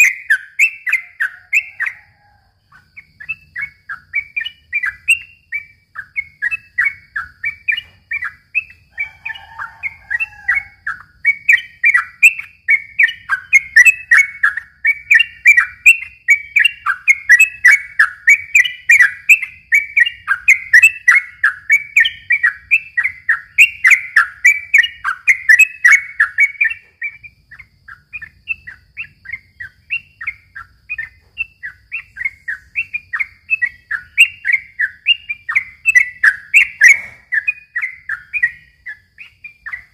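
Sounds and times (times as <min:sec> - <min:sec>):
bird chirping song: 0:00.0 - 0:39.9
low bird call: 0:00.0 - 0:39.9.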